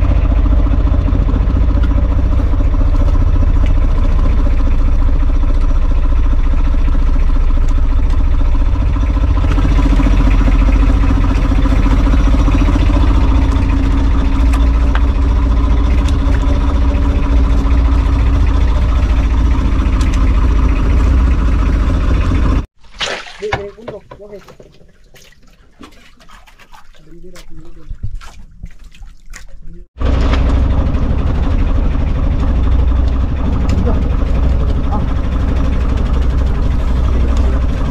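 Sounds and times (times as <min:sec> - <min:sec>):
boat engine running: 0:00.0 - 0:22.8, 0:23.4 - 0:37.9.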